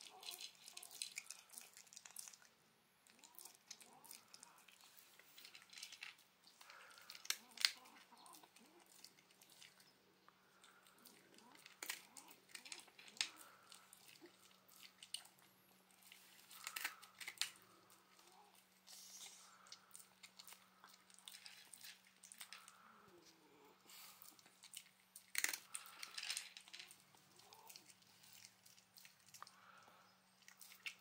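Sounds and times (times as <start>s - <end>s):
dog crunching dry kibble: 0.0s - 9.9s, 10.6s - 22.8s, 24.2s - 29.8s, 30.4s - 31.0s.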